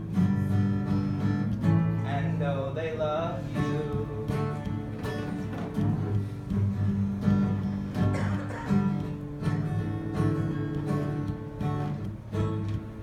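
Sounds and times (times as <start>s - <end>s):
strummed guitar chords: 0.0s - 13.0s.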